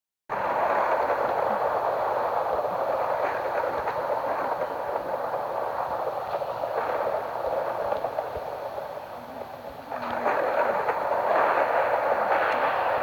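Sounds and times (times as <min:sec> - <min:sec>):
heavy rain: 0:00.3 - 0:13.0.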